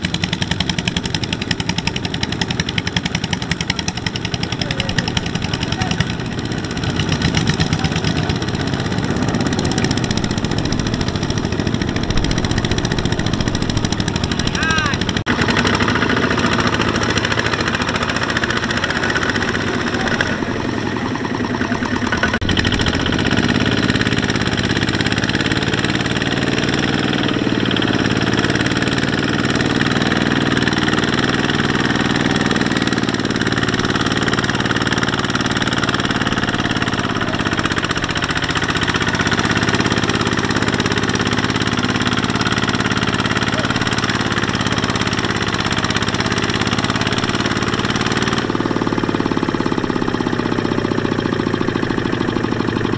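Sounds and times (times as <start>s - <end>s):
diesel engine chugging: 0.0s - 52.9s.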